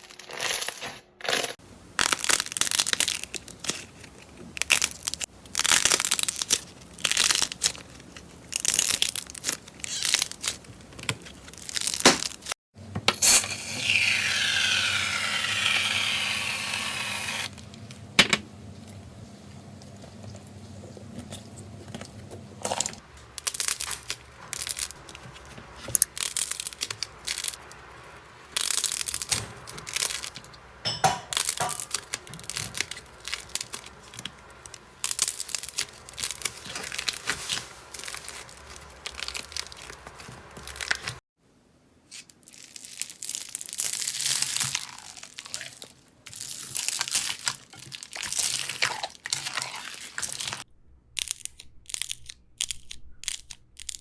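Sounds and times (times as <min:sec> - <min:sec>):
slime squishing by hand: 0:01.8 - 0:12.6, 0:19.8 - 0:41.2, 0:42.1 - 0:54.0.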